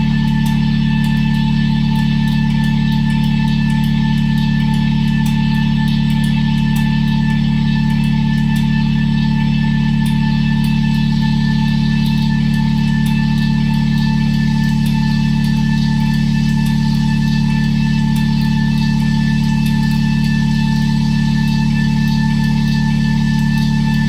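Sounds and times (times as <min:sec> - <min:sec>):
low drone: 0:00.0 - 0:24.0.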